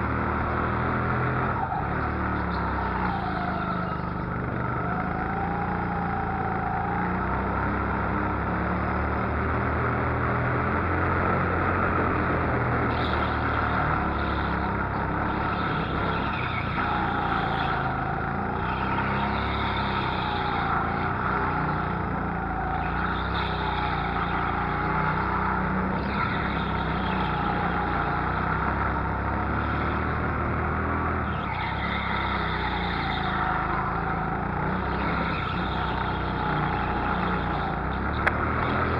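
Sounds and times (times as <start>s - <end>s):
go-kart motor revving: 0.0s - 38.9s.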